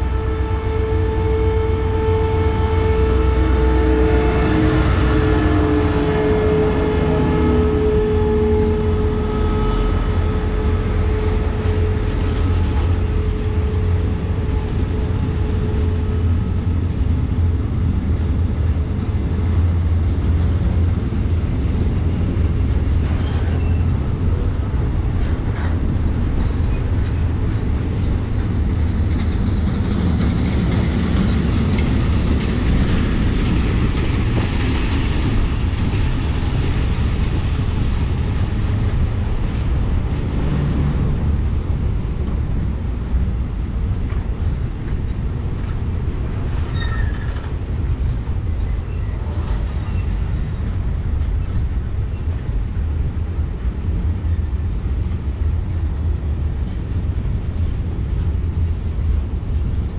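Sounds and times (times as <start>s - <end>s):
diesel train engine: 0.0s - 59.9s
freight wagons rolling on rails: 8.9s - 59.9s.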